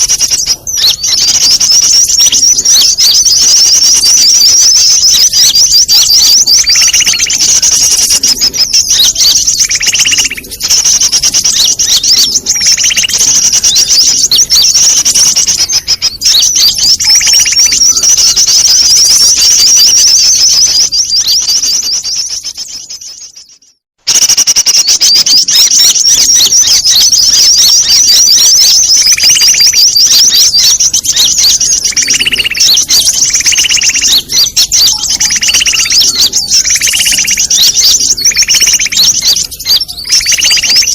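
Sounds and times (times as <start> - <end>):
lower whistled notes: 0.0 - 40.9
small birds chirping and twittering: 0.0 - 40.9.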